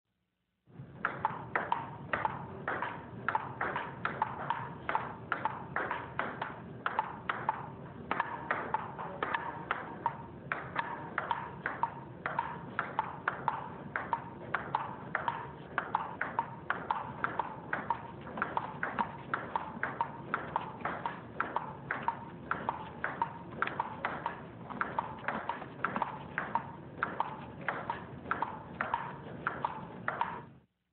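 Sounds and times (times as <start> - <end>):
table tennis ball clicking: 1.0 - 30.6.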